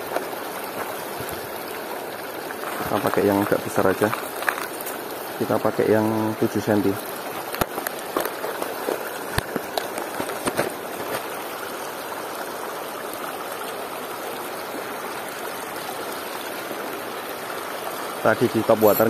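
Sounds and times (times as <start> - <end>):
flowing river water: 0.0 - 19.0.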